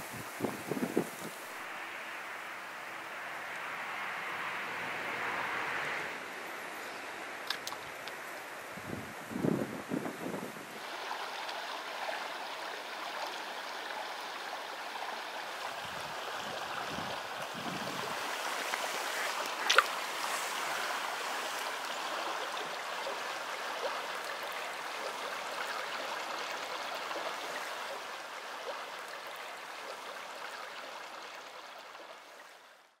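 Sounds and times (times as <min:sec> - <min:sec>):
stream water running: 0:00.0 - 0:33.0.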